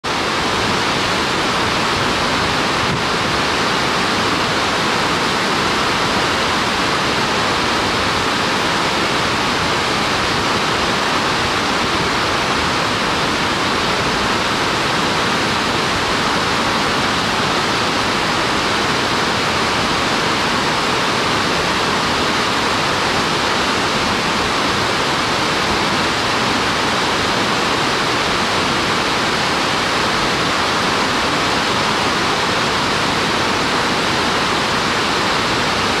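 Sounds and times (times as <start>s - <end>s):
rush of falling water: 0.0s - 36.0s.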